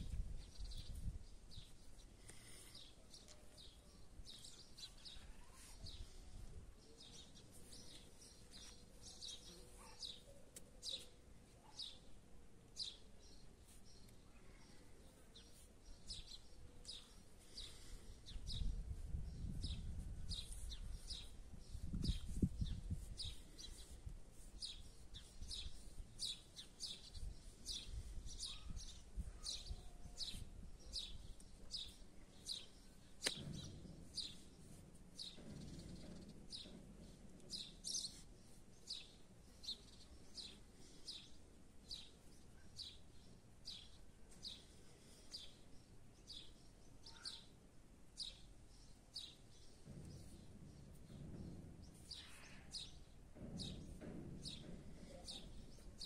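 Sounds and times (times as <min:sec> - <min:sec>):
small bird chirping: 0:00.0 - 0:12.1, 0:12.8 - 0:47.6, 0:48.2 - 0:56.0.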